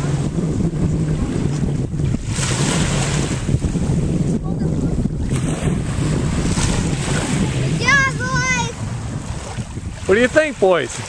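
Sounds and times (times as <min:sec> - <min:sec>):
choppy water: 0:00.0 - 0:11.0
wind buffeting microphone: 0:00.0 - 0:11.0.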